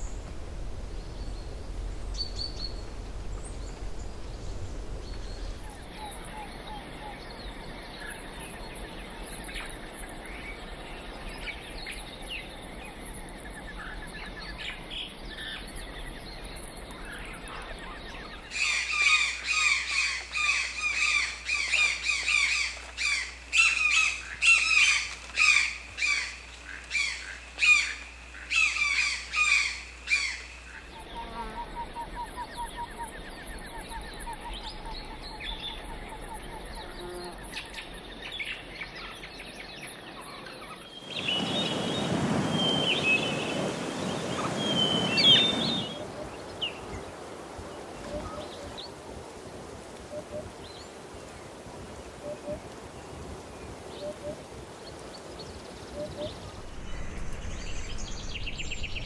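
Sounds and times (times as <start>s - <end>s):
bird calls and trills: 0.9s - 59.0s.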